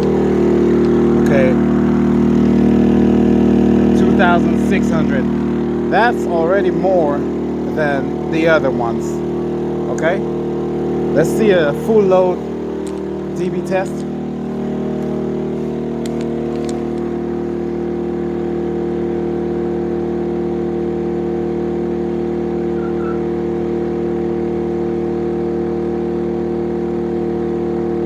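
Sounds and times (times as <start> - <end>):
generator running: 0.0 - 28.0.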